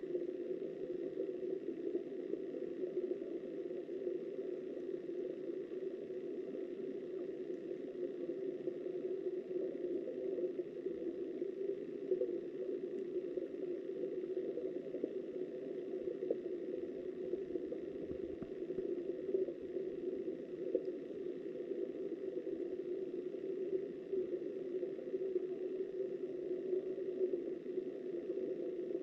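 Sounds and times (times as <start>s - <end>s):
muffled underwater river rush: 5.0s - 29.0s.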